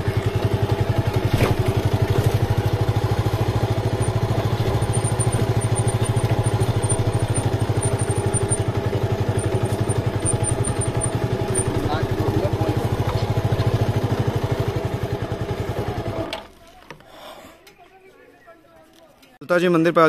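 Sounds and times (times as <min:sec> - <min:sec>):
motorcycle engine running: 0:00.0 - 0:16.5.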